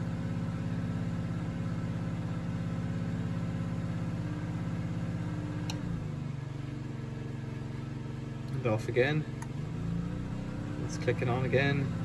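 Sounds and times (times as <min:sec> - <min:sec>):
small generator engine running: 0:00.0 - 0:12.0.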